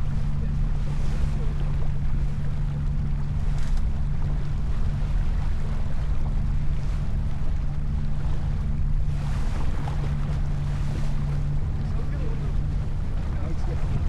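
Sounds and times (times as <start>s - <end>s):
water washing past hull: 0.0s - 14.0s
wind rumble on microphone: 0.0s - 14.0s.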